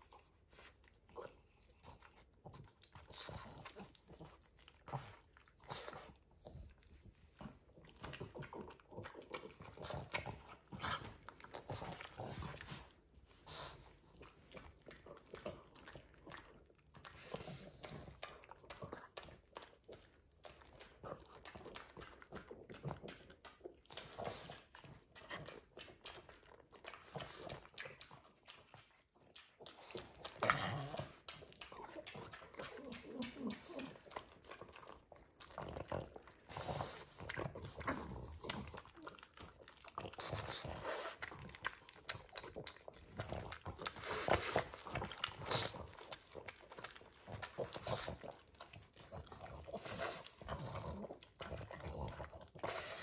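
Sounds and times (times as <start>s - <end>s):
dog licking: 0.0s - 53.0s
dogs chewing and lip-smacking: 0.0s - 53.0s.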